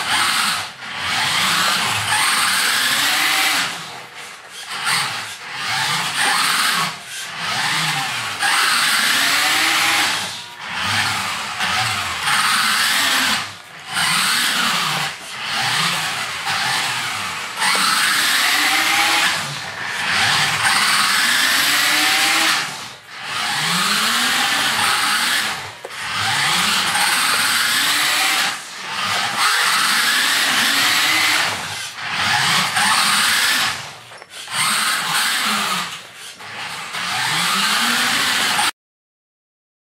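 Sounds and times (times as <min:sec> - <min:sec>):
toy car electric motor whining: 0:00.0 - 0:38.7.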